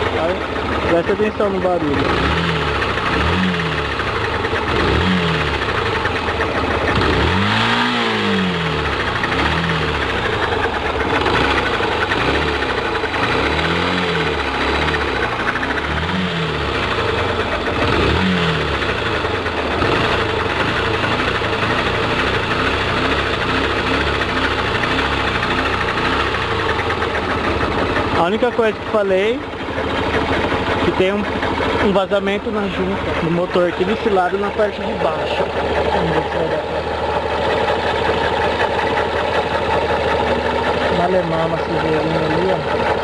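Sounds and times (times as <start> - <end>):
motorcycle engine idling with knocking: 0.0 - 43.0.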